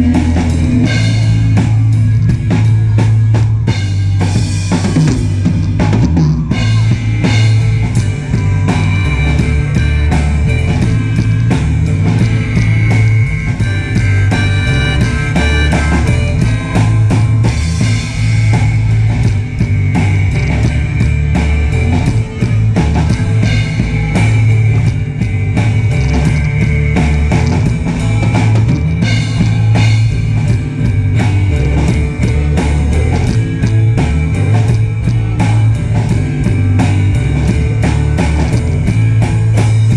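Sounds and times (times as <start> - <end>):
drum kit beat: 0.0 - 39.9
heavy bass notes: 0.0 - 39.9
rock band playing: 0.0 - 39.9.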